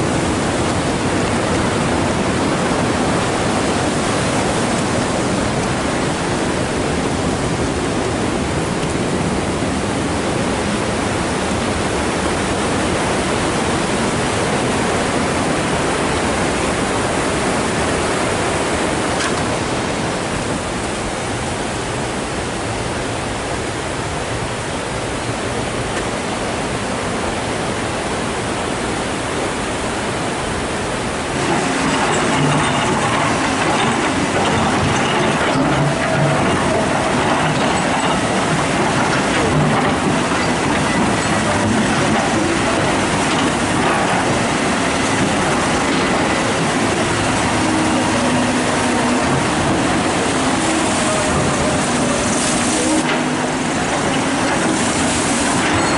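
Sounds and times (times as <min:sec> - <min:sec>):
fast river rushing: 0:00.0 - 0:55.9.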